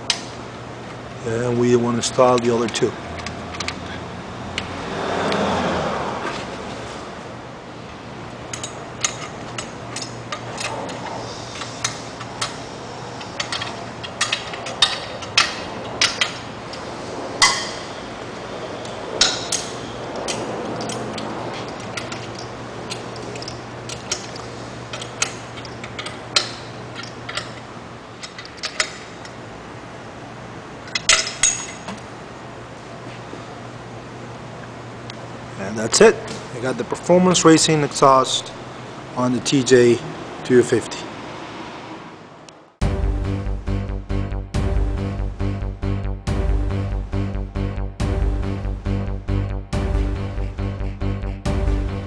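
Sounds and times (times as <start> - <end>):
steady low hum: 0.0 - 39.2, 42.4 - 52.0.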